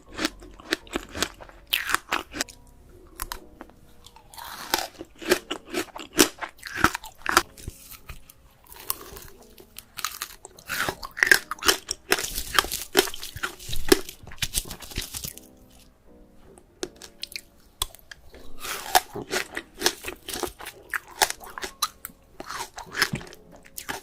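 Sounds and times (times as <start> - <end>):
person chewing crisp fruit: 0.0 - 15.9, 16.8 - 24.0.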